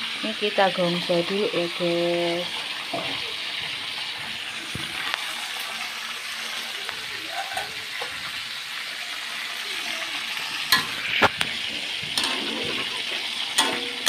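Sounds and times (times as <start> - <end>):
chili paste hissing in a wok: 0.0 - 14.0.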